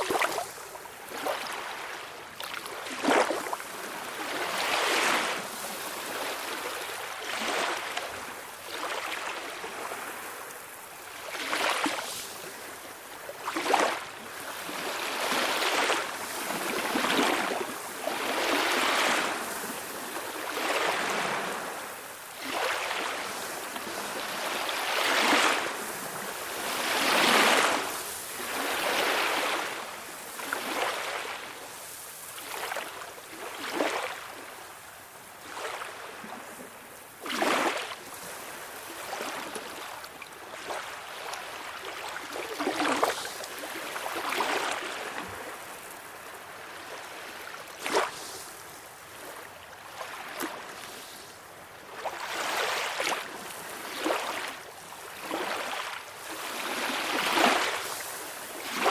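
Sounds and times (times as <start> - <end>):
small waves lapping on shore: 0.0 - 58.9.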